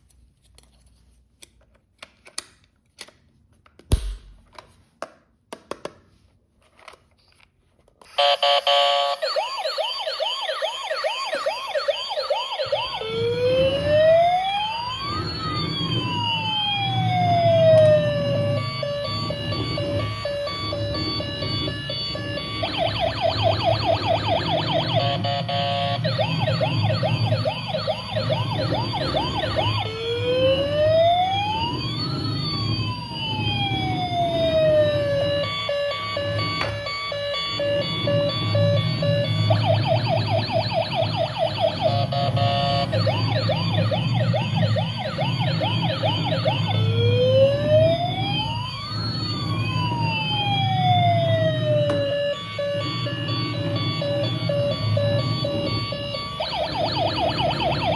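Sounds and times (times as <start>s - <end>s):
toy electronic siren: 8.1s - 57.9s.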